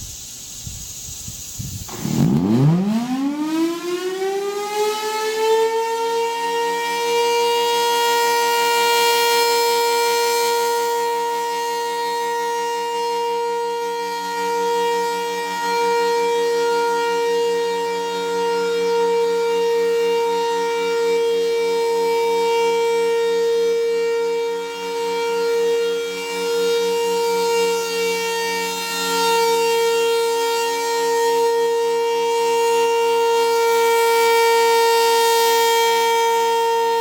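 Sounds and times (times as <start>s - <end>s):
rotating tornado siren: 1.9s - 37.0s.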